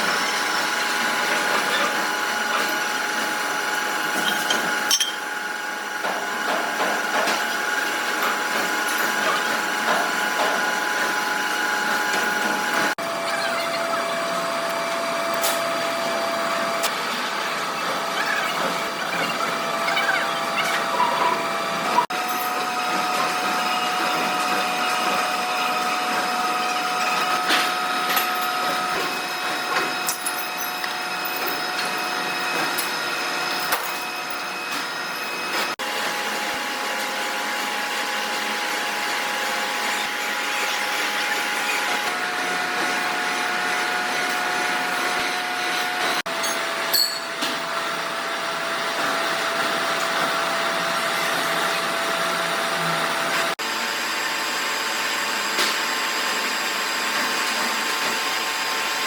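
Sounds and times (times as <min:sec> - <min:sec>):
workshop machinery whining: 0:00.0 - 0:59.0.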